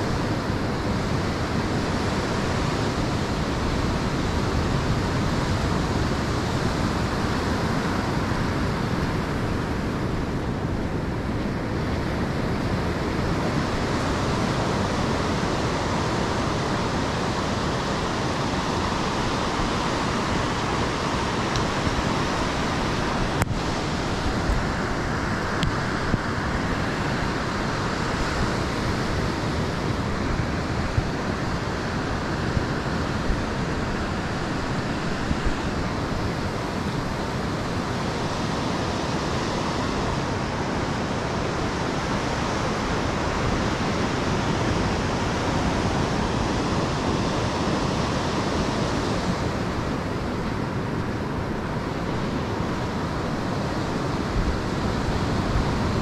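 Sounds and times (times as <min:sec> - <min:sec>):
ocean surf rushing: 0:00.0 - 0:56.0
wind noise: 0:00.0 - 0:56.0.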